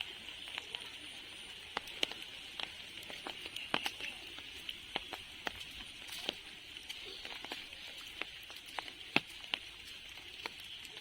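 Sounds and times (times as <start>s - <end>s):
rain hiss: 0.0s - 11.0s
raindrops tapping on umbrella: 0.0s - 11.0s.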